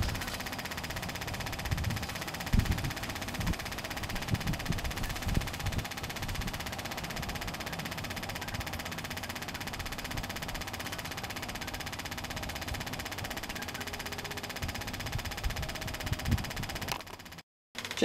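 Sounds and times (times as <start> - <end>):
machine noise pulsing rapidly: 0.0 - 18.0.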